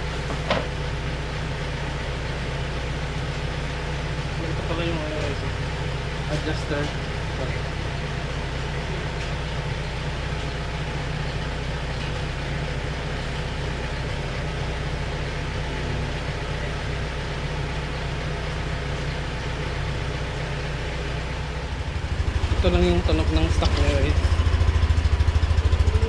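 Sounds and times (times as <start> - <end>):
scooter engine idling: 0.0 - 26.0.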